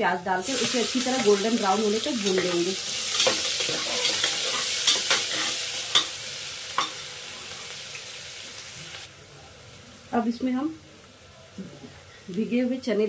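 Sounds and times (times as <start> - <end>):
onions sizzling in oil: 0.2 - 13.0.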